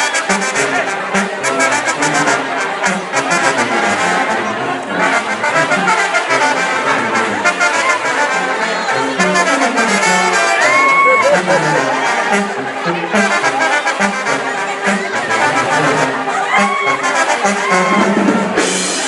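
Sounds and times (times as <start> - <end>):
bass line: 0.0 - 19.0
brass band dance music: 0.0 - 19.0.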